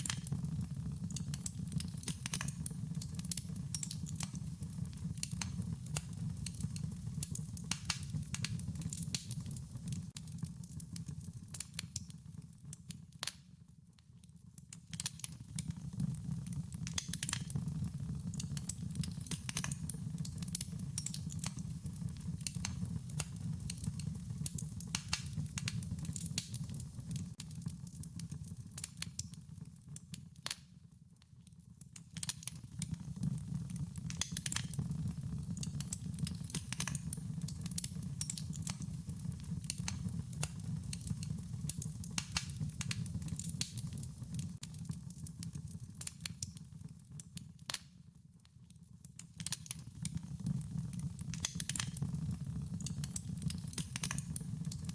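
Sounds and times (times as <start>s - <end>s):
low steady fire rumble: 0.0s - 54.9s
wood fire crackling and popping: 0.0s - 54.9s.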